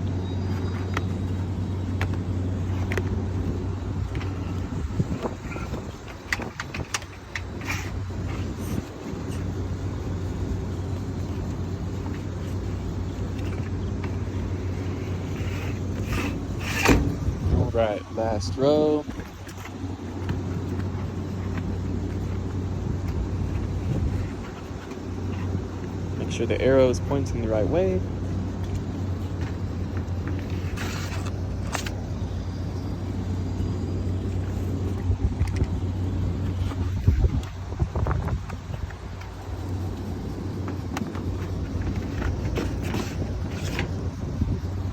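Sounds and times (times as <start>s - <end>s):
air filter rustling: 0.0s - 44.9s
low machine hum: 0.0s - 44.9s.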